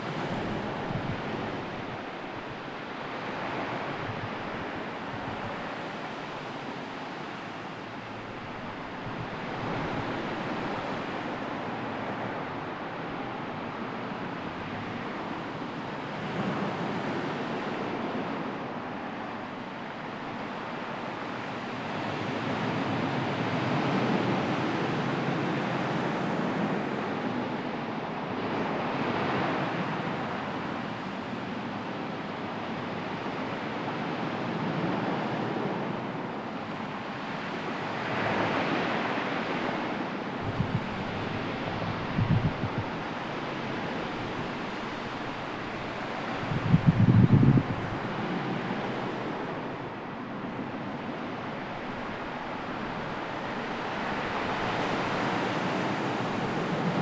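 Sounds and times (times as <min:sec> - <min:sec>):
surf washing on shore: 0:00.0 - 0:57.0.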